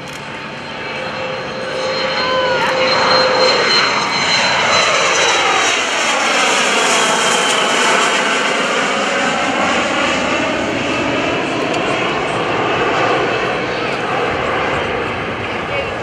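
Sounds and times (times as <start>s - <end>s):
jet whine sweeping down: 0.0s - 15.9s
jet engines roaring: 0.0s - 16.0s.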